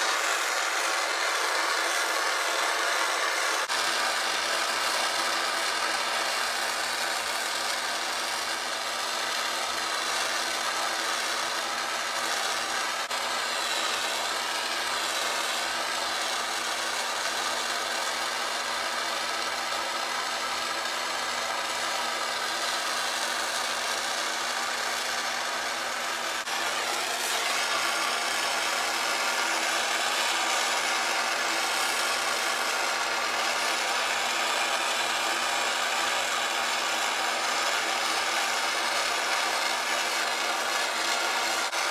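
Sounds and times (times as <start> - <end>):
gas torch hissing: 0.0 - 41.9.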